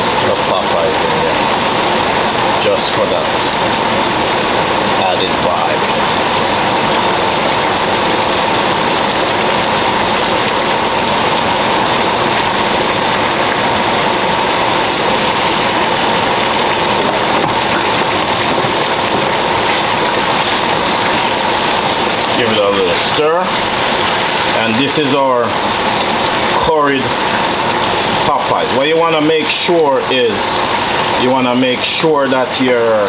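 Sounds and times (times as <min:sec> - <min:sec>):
curry bubbling in a pan: 0:00.0 - 0:33.0.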